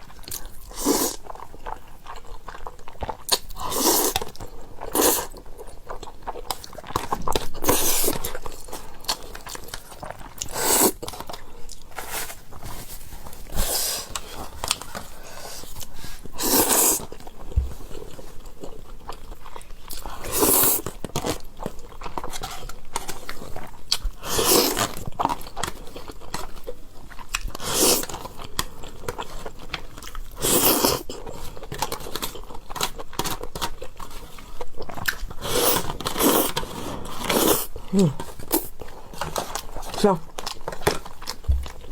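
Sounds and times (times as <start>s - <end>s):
wet chewing and mouth clicks: 0.0s - 11.9s, 13.9s - 41.9s.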